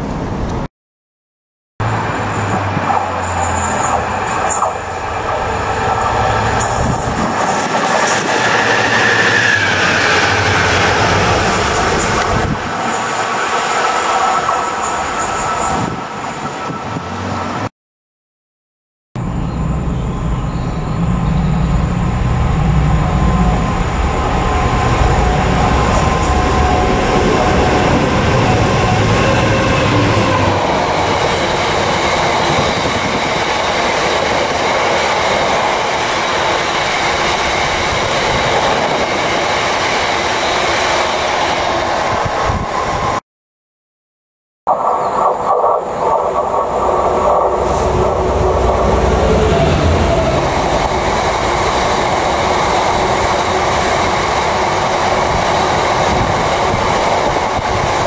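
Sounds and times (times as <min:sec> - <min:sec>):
diesel locomotive engine: 0:01.8 - 0:17.6, 0:19.2 - 0:43.2, 0:44.7 - 0:58.0.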